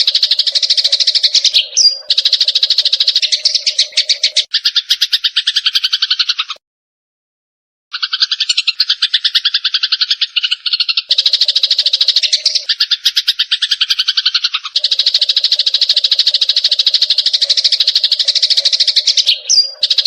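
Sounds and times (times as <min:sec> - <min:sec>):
sparrows chattering harsh chirps: 0:00.0 - 0:06.6, 0:07.9 - 0:20.0.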